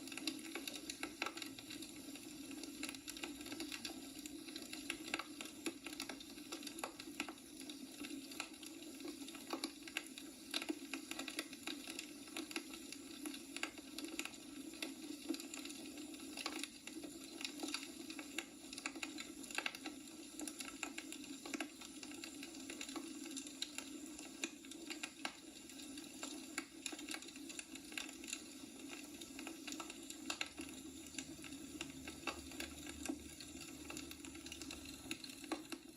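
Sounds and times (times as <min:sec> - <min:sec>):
logs crackling and popping: 0:00.0 - 0:35.9.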